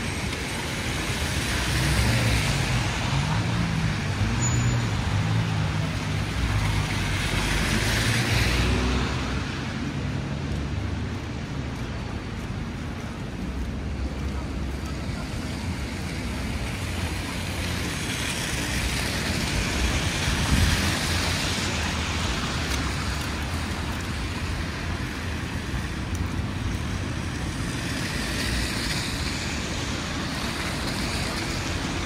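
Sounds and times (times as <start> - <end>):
low rumble of engines: 0.0 - 32.0
tyres hissing on snowy road: 0.0 - 32.0.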